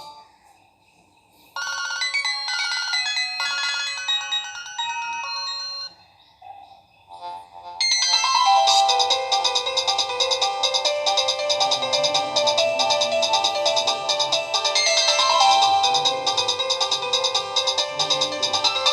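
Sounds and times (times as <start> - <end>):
electronic ringtone melody: 0.0 - 0.3, 1.6 - 6.3, 7.1 - 18.9.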